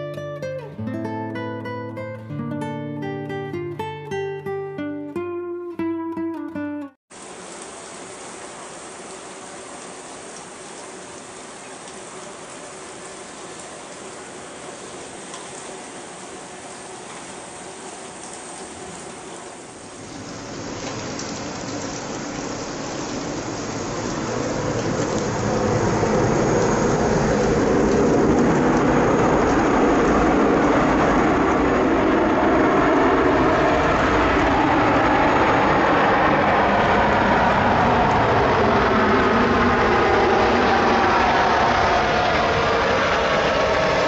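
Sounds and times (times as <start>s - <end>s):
jet engines of landing airliner: 7.2s - 44.0s.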